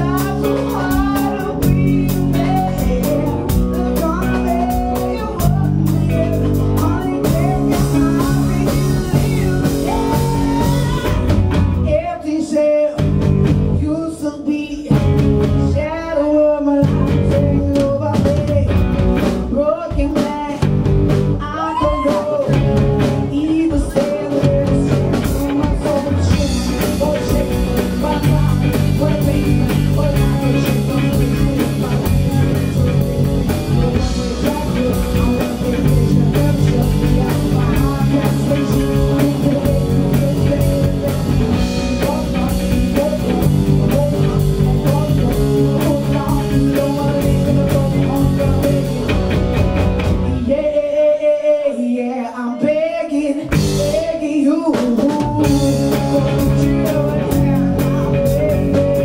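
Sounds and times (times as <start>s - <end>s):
woman singing: 0.0s - 13.1s, 13.8s - 20.7s, 21.4s - 49.2s, 50.3s - 59.0s
drum kit: 0.0s - 51.4s, 52.6s - 59.0s
electric guitars: 0.0s - 51.7s, 52.4s - 59.0s.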